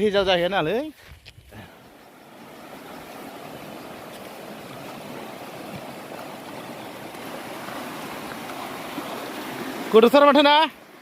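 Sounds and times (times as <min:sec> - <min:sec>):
stream water rushing: 0:01.6 - 0:11.0.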